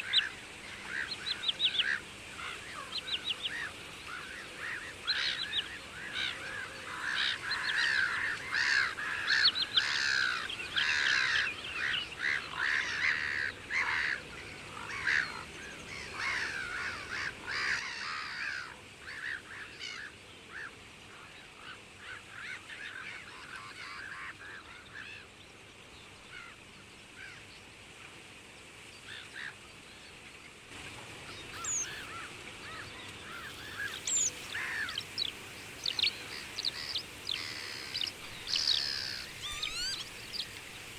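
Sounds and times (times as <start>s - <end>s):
water birds calling: 0.0s - 25.4s, 29.0s - 40.9s.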